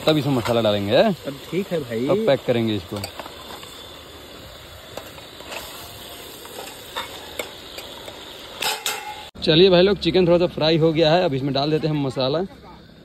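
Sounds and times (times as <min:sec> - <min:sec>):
chicken sizzling in hot oil: 0:00.0 - 0:12.5.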